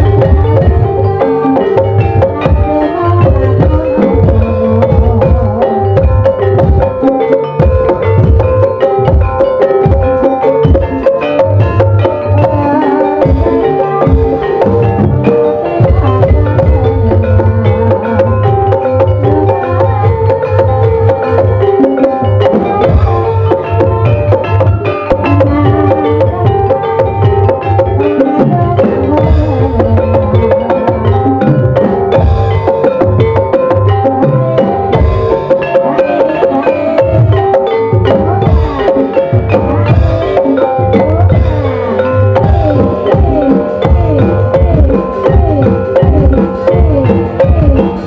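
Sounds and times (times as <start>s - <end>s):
hand drum strokes: 0.0s - 48.0s
mallet-struck pitched instruments: 0.0s - 48.0s
metallophones playing melody: 0.0s - 48.0s.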